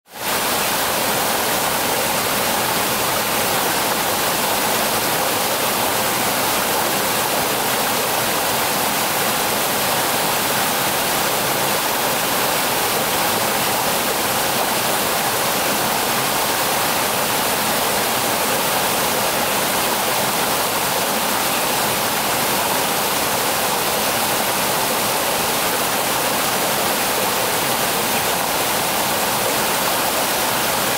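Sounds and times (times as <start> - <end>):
stream water cascading over rocks: 0.1 - 30.9.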